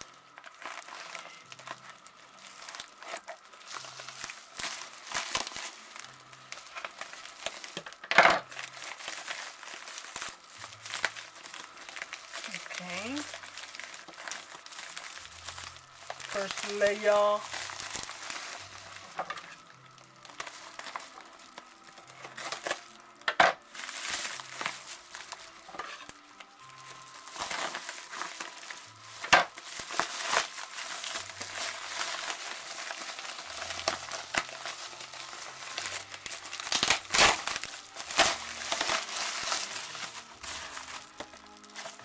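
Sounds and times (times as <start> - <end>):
packing paper crinkling: 0.0 - 42.0.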